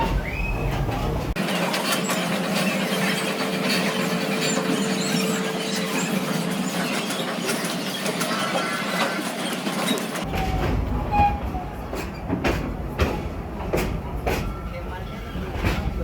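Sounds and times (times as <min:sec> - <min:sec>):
train rolling on track: 0:00.0 - 0:16.0
wheels clacking over rail joints: 0:00.0 - 0:16.0.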